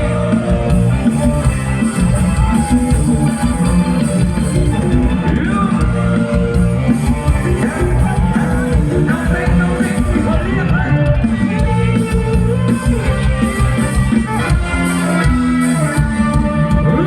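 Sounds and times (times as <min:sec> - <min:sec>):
live band music with steady beat: 0:00.0 - 0:17.0.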